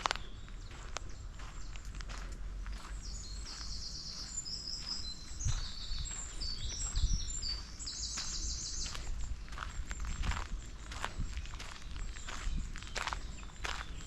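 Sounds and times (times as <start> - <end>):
footsteps on a path: 0.0 - 14.0
songbirds chirping and singing: 0.0 - 14.0.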